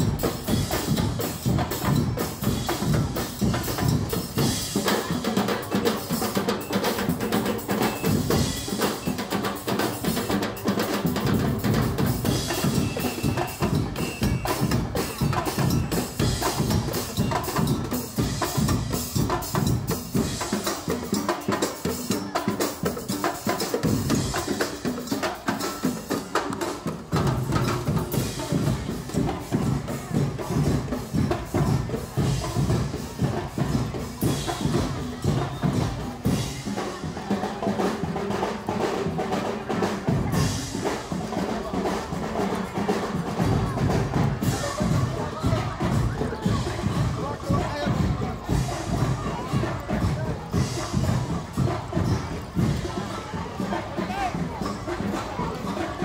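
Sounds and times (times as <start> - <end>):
bass and snare drums beat: 0.0 - 56.0.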